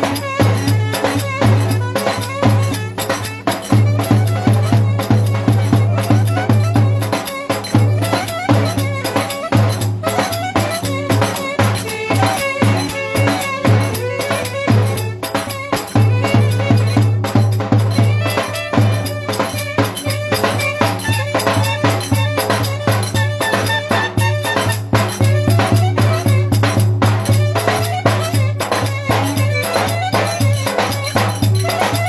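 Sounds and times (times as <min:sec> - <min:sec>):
folk dance music: 0:00.0 - 0:32.0
percussion beat: 0:00.0 - 0:32.0.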